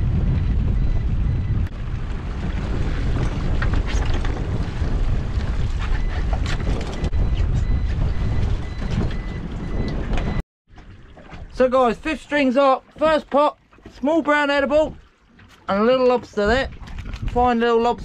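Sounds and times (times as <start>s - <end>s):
wind buffeting microphone: 0.0s - 12.2s, 14.5s - 18.0s.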